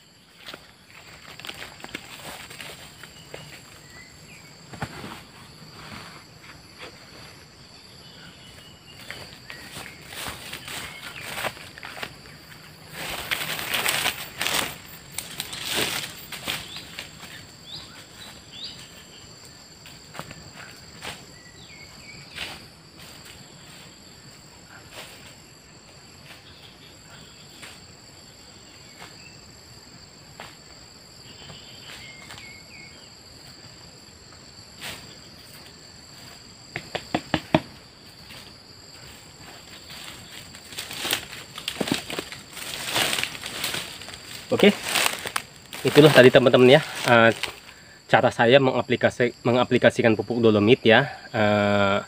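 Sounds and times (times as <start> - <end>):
high insect drone: 0.0 - 52.0.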